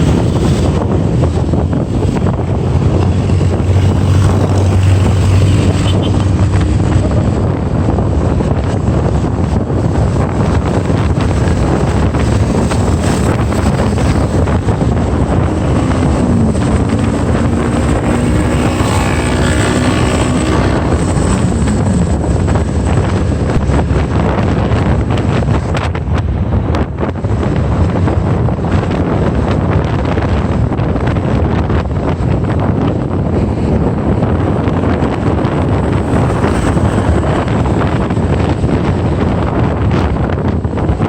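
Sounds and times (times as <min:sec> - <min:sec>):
motorbike engine and road noise: 0:00.0 - 0:41.0
wind buffeting microphone: 0:00.0 - 0:41.0.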